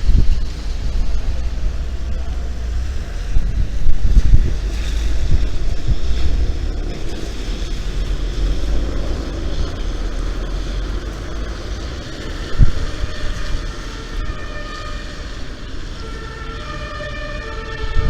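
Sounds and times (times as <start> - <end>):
snowstorm wind gusting: 0.0 - 18.0.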